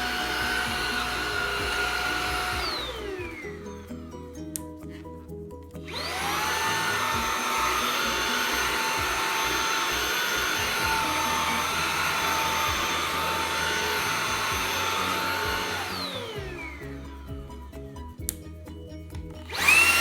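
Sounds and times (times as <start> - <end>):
stick vacuum motor whining: 0.0 - 5.0, 5.8 - 18.4, 19.4 - 20.0.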